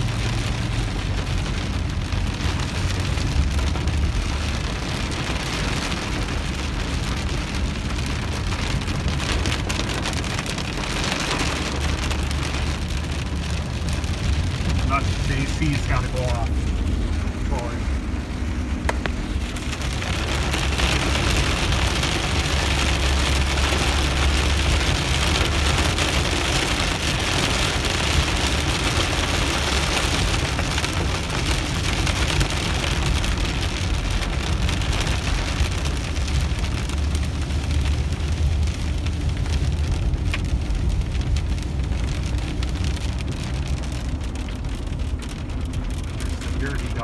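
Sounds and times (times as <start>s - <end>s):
engine and tyres rumbling: 0.0s - 47.0s
rain hitting windshield and roof: 0.0s - 47.0s.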